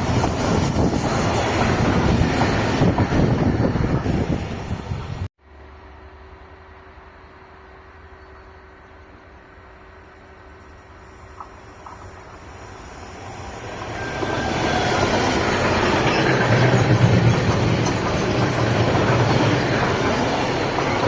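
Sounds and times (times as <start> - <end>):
train wheels rumbling on rails: 0.0 - 5.3, 7.7 - 21.0.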